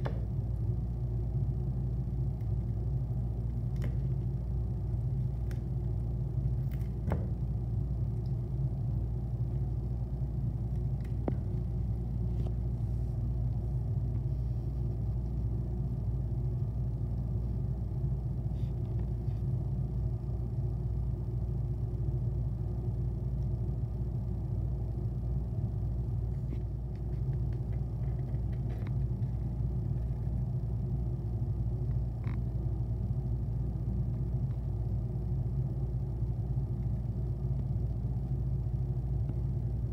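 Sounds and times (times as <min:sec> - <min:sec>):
steady low rumble: 0:00.0 - 0:39.9.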